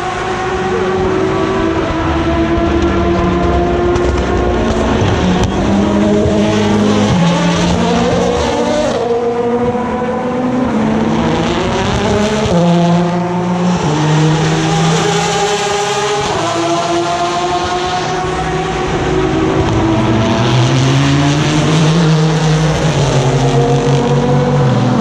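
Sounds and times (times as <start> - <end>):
car accelerating away: 0.0 - 25.0
race car engines: 0.0 - 25.0.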